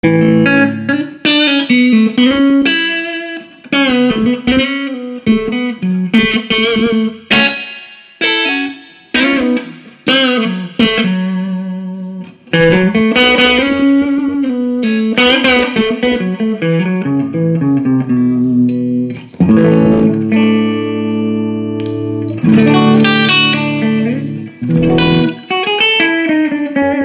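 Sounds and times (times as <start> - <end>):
electric guitar with string bends: 0.0 - 27.0.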